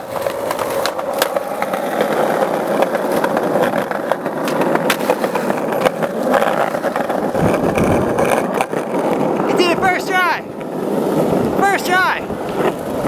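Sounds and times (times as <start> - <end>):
skateboard clacking on ground: 0.0 - 13.0
skateboard wheels rolling on concrete: 0.0 - 13.0.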